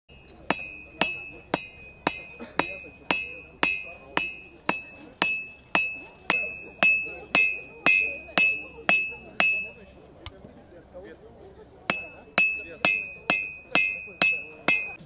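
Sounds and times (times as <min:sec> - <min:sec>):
hammer striking metal on anvil: 0:00.1 - 0:09.9, 0:11.9 - 0:15.0.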